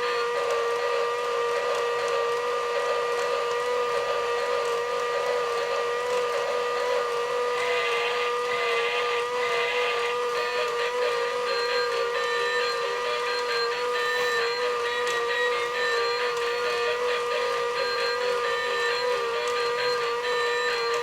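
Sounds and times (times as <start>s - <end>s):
toy train motor whine: 0.0s - 21.0s
whirr with light clicking: 0.0s - 21.0s.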